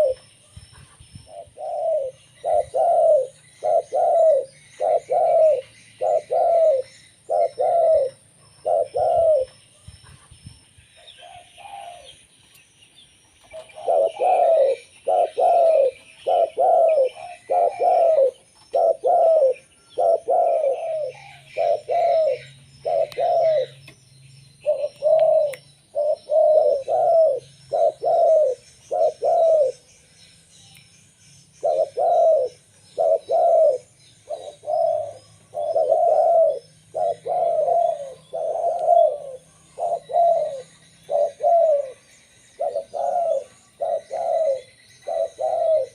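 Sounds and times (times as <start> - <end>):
dove cooing: 0.0 - 10.3, 11.0 - 12.2, 13.4 - 23.9, 24.6 - 29.9, 31.6 - 45.9.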